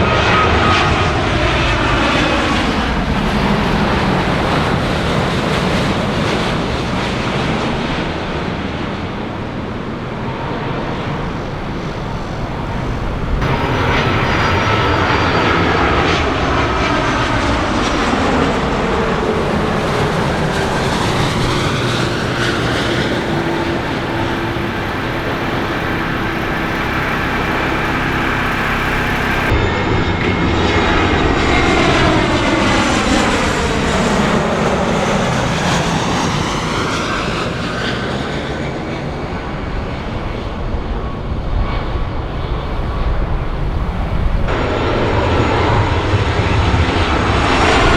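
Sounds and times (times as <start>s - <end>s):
jet engine whine sliding down: 0.0s - 38.9s, 41.1s - 47.9s
jet engines roaring: 0.0s - 47.9s.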